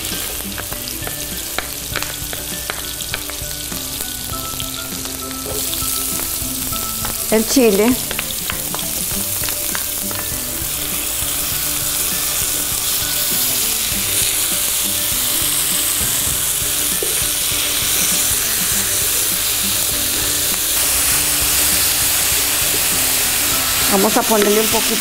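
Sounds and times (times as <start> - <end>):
food sizzling in a skillet: 0.0 - 25.0.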